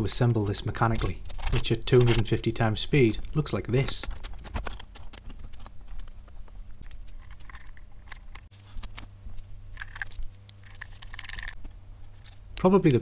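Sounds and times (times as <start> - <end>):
steady low hum: 0.0 - 13.0
plastic parts clicking and rattling: 0.2 - 2.5, 3.2 - 11.6.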